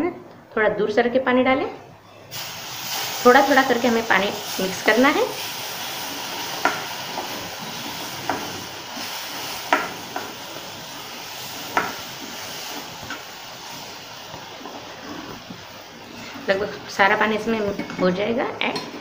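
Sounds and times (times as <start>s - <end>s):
water sizzling in hot pan: 2.3s - 19.0s.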